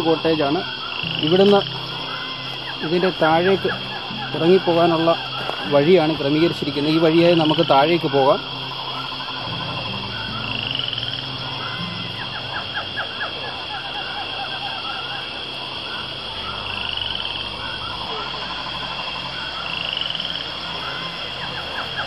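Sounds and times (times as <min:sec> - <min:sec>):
frogs calling in trills: 0:00.0 - 0:22.0
high-pitched insect drone: 0:00.0 - 0:22.0
rising chirps: 0:00.0 - 0:22.0.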